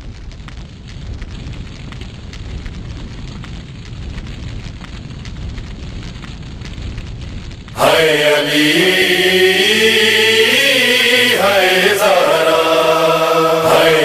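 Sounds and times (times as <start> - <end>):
fire crackling and rumbling: 0.0 - 14.0.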